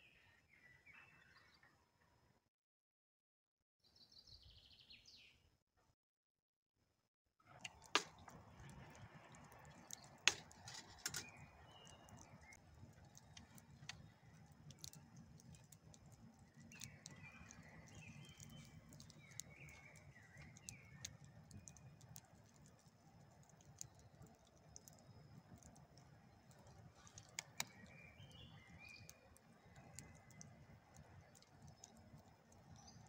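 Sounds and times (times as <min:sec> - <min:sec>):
small birds chirping: 0:03.9 - 0:05.4, 0:07.6 - 0:33.0.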